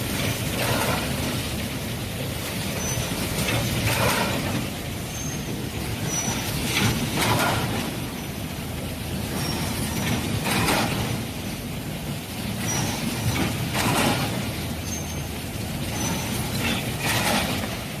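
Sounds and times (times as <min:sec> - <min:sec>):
factory machinery running: 0:00.0 - 0:18.0.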